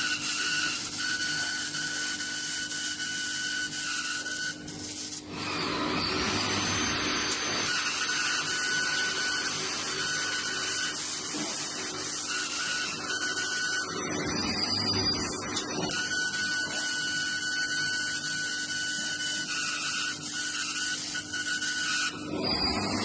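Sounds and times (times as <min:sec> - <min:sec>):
laser cutting machine hiss and whine: 0:00.0 - 0:23.0.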